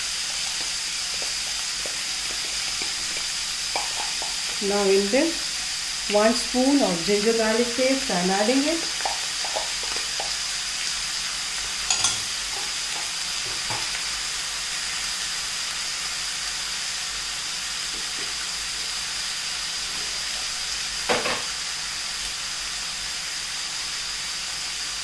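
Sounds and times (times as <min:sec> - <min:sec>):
meat sizzling in oil: 0:00.0 - 0:25.0.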